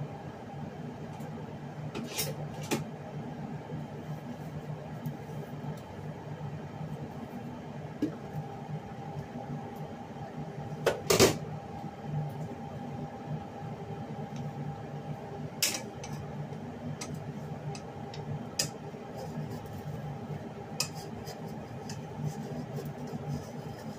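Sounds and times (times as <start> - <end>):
kitchen hum: 0.0 - 23.9.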